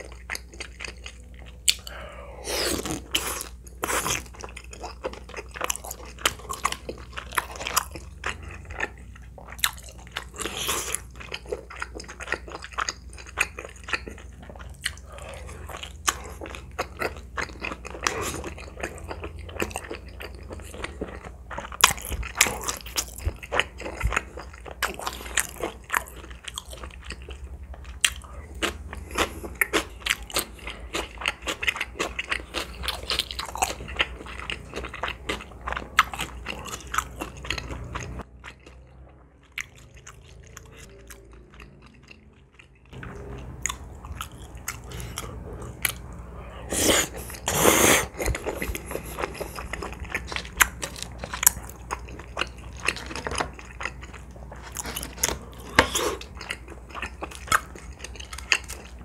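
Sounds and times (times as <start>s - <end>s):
crunching and chewing: 0.0s - 59.0s.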